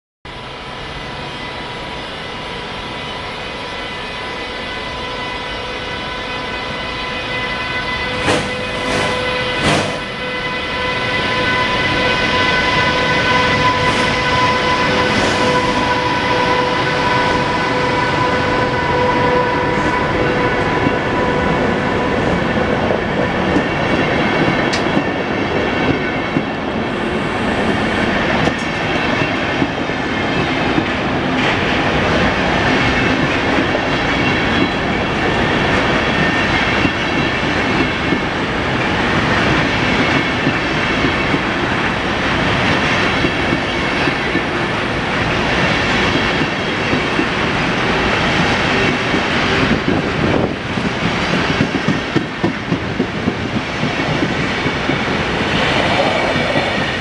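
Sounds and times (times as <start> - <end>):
electric locomotive whining: 0.3 - 57.0.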